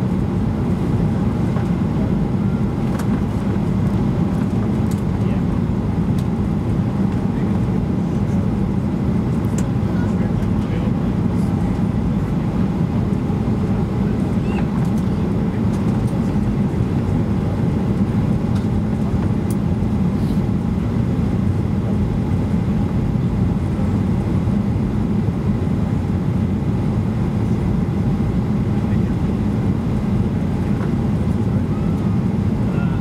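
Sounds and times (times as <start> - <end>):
airplane cabin roar: 0.0 - 33.0.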